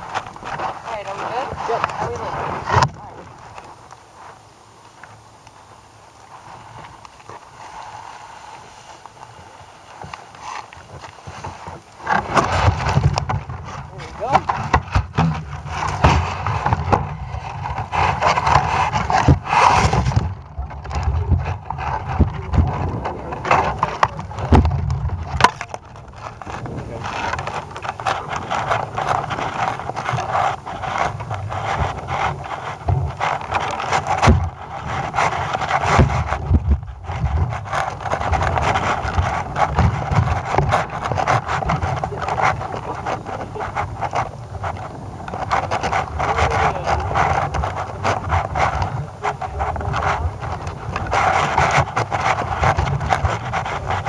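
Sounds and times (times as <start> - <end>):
wind on microphone: 0.0 - 54.0
knocks and rubbing on camera: 10.0 - 54.0.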